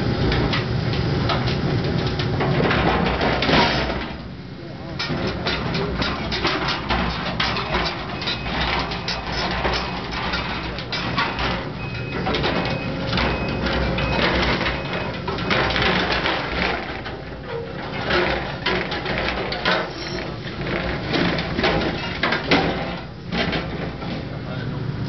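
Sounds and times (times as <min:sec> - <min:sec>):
metal crunching and creaking: 0:00.1 - 0:24.4.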